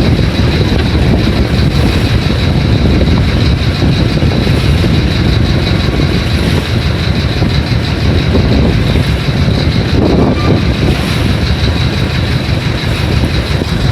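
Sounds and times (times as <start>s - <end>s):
strong wind buffeting microphone: 0.0s - 13.9s.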